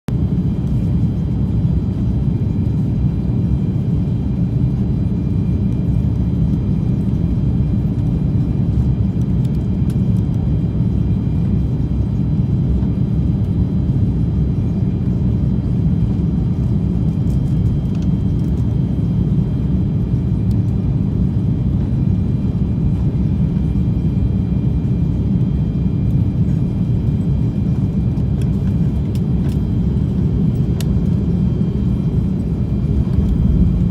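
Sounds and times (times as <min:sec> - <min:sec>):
airliner cabin rumble: 0:00.1 - 0:33.9.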